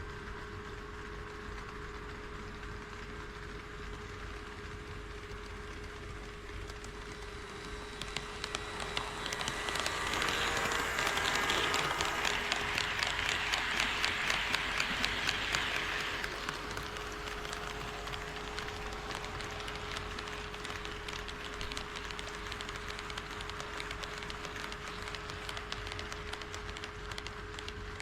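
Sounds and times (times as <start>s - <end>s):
model train wheels clattering: 5.0s - 28.0s.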